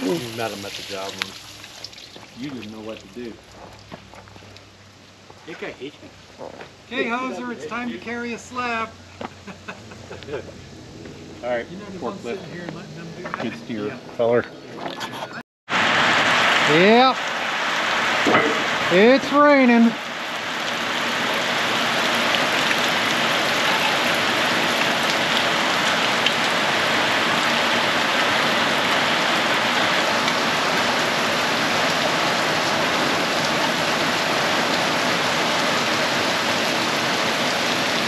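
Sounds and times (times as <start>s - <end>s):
steady rain falling: 0.0s - 14.0s, 15.7s - 38.0s.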